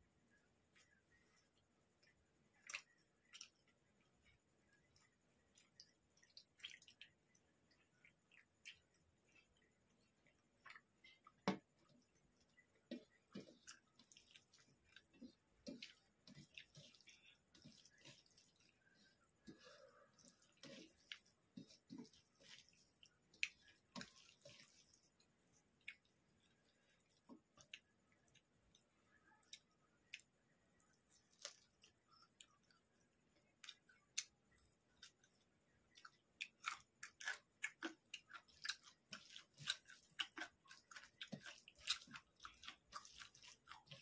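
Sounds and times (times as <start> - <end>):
hand squishing rice: 0.0 - 44.0.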